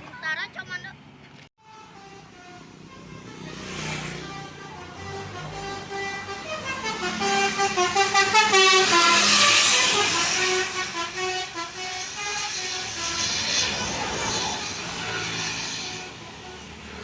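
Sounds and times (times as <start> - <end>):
passing vehicle noise: 1.0 - 17.0
multi-tone musical bus horn: 1.6 - 17.0.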